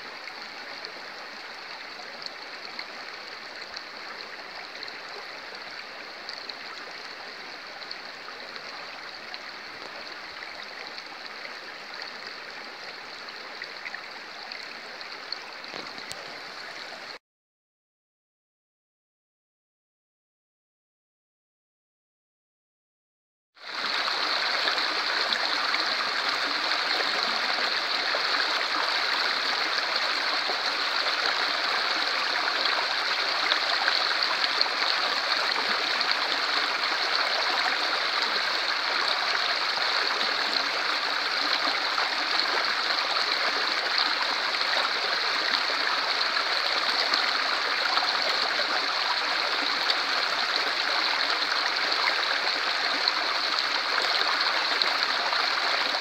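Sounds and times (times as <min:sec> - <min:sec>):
stream flowing over stones: 0:00.0 - 0:17.2, 0:23.6 - 0:56.0.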